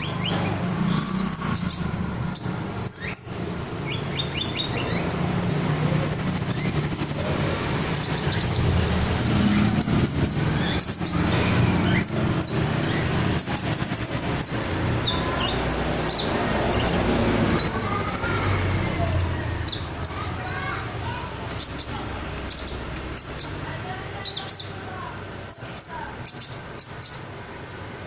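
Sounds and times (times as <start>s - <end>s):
sunbird singing: 0.0s - 27.4s.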